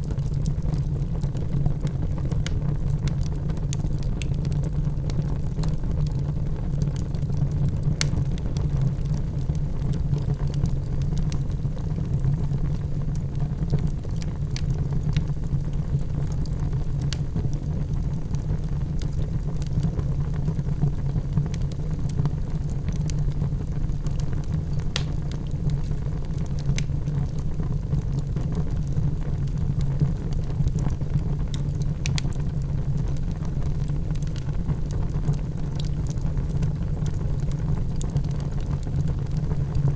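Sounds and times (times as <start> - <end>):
fire crackles and pops: 0.0 - 39.9
wood fire burning: 0.0 - 39.9.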